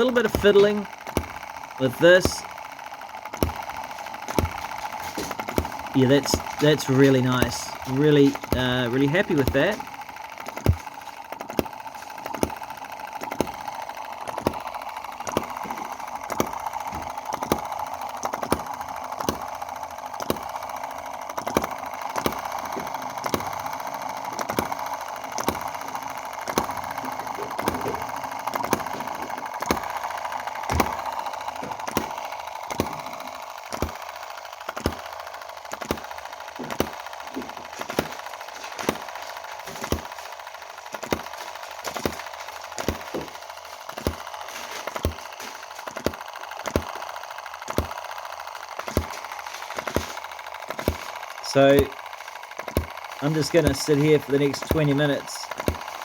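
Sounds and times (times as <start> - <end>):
engine firing with sharp bangs: 0.0 - 56.0
steady high-pitched whir: 0.0 - 56.0.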